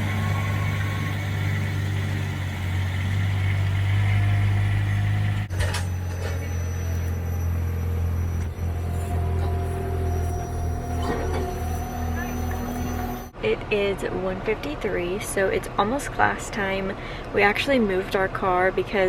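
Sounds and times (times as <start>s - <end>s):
engine humming: 0.0s - 15.9s.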